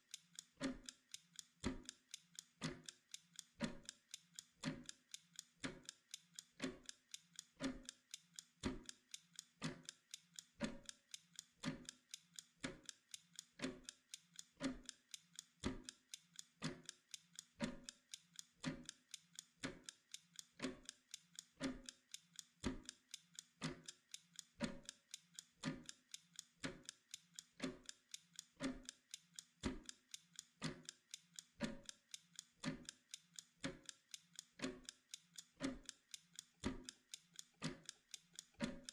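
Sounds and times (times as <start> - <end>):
timer ticking: 0.0 - 38.9.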